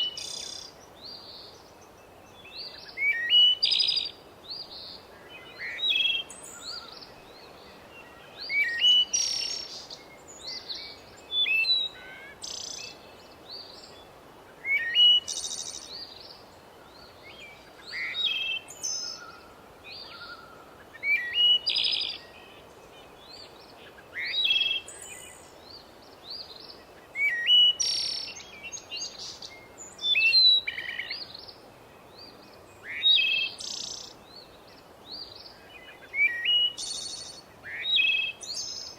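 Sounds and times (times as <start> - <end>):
low background hiss: 0.0 - 38.9
songbird singing: 0.0 - 38.9.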